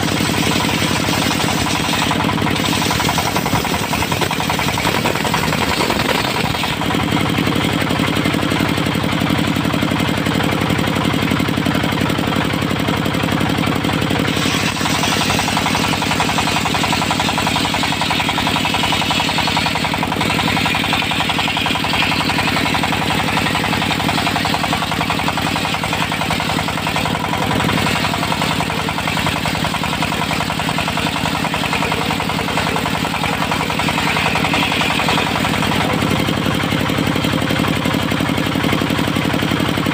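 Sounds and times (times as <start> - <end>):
sawmill engine knocking: 0.0 - 39.9.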